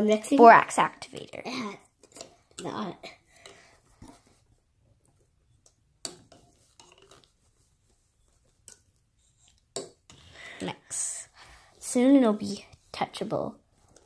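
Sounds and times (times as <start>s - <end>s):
spoon stirring slime: 0.1s - 14.0s.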